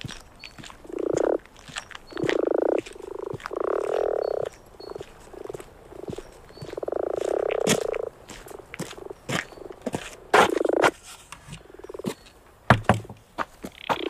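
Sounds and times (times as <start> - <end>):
frogs croaking: 0.0 - 14.0.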